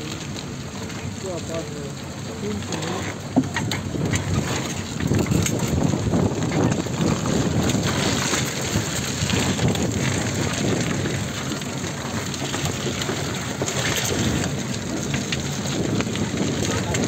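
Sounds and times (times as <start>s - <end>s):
vehicle driving over rough track: 0.0s - 17.0s
wind buffeting microphone: 0.0s - 17.0s.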